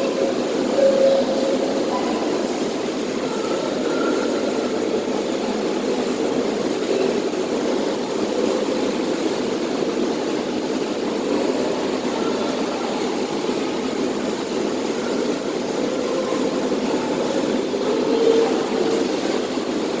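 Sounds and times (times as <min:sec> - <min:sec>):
steady droning noise indoors: 0:00.0 - 0:20.0.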